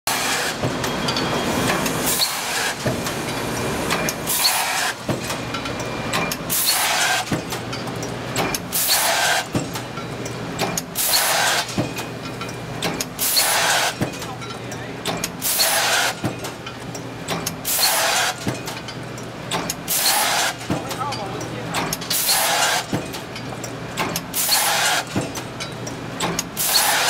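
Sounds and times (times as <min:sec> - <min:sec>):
steady machine hum: 0:00.1 - 0:26.7
machine clicks and clanks: 0:00.1 - 0:27.0.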